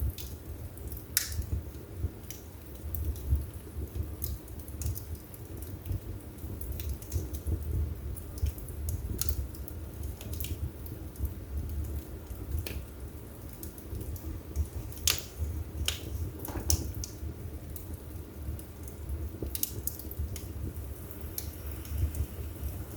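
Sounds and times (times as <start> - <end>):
burning wood crackling and popping: 0.0 - 22.9
low rumble of flames: 0.0 - 22.9.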